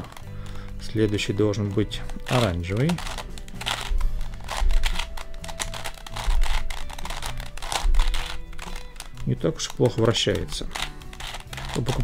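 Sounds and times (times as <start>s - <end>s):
puzzle cube plastic clicks: 0.0s - 12.0s.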